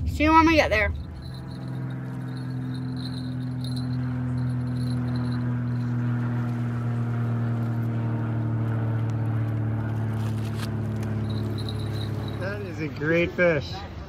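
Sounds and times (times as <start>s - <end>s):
low engine drone: 0.0s - 13.8s.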